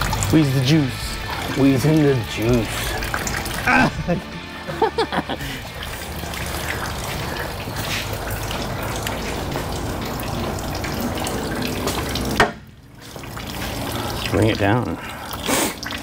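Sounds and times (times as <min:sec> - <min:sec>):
liquid pouring out: 0:00.0 - 0:16.0.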